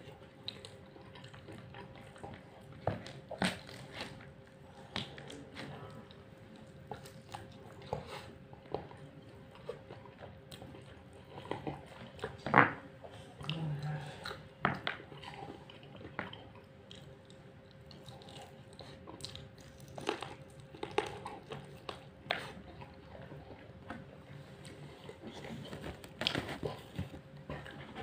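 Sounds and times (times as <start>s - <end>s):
faint steady hum: 0.0s - 28.0s
man chewing and eating: 0.0s - 28.0s.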